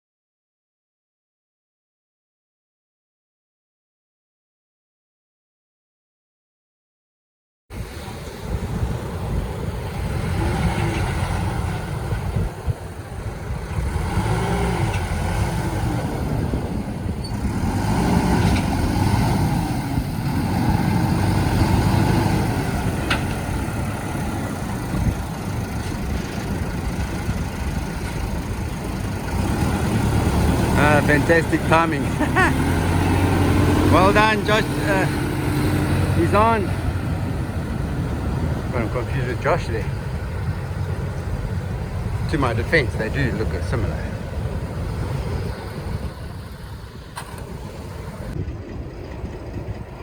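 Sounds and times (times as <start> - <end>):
outboard motors revving: 7.8 - 50.0.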